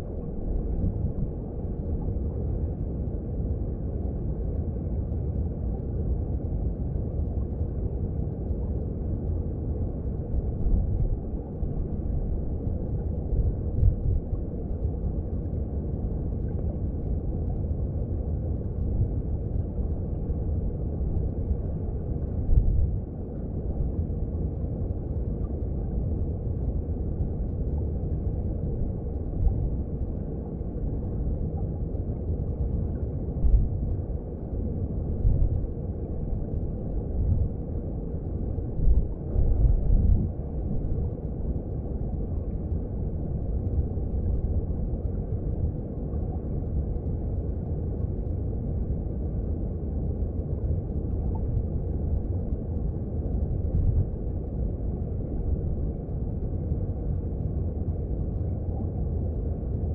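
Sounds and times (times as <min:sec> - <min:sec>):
underwater stream rumble: 0:00.0 - 0:59.9.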